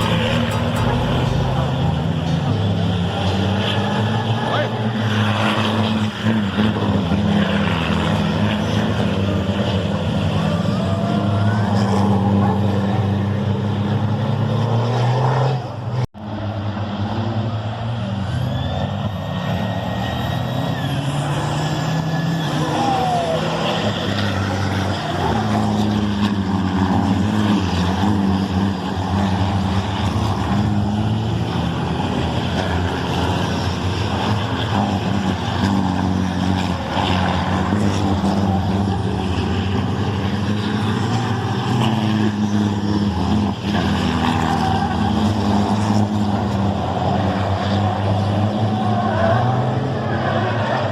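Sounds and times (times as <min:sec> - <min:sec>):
heavy truck engines revving: 0:00.0 - 0:50.9.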